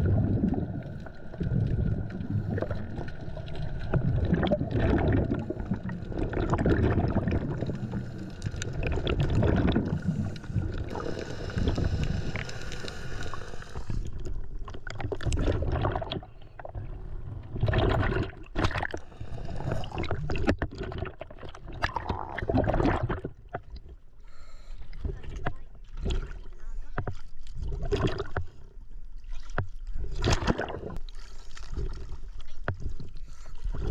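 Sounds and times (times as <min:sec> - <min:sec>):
underwater rumble and bubbling: 0:00.0 - 0:33.9
water splashing and sloshing: 0:00.0 - 0:33.9.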